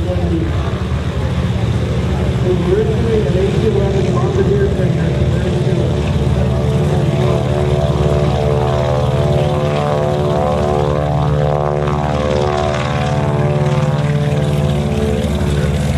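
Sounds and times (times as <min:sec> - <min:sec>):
propeller plane engines droning: 0:00.0 - 0:15.9.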